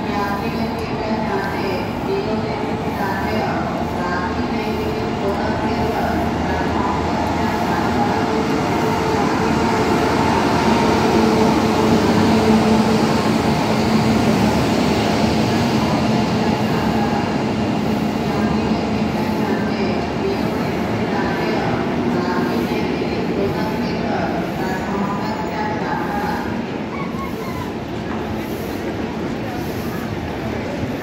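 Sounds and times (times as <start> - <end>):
train coaches rumbling on track: 0.0 - 31.0.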